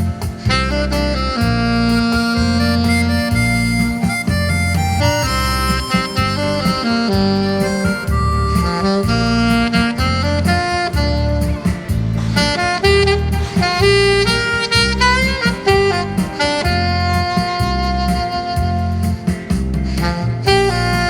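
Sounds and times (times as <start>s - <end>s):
backing track with bass and beat: 0.0s - 21.0s
saxophone melody: 0.0s - 21.0s.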